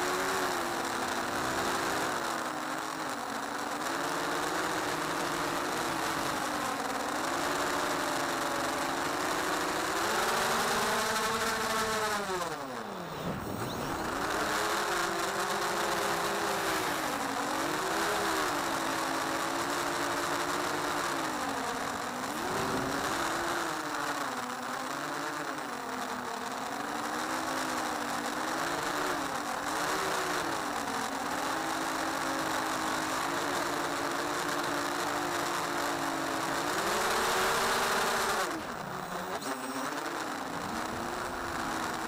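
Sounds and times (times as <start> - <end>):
model aircraft motor buzzing whine: 0.0 - 42.0.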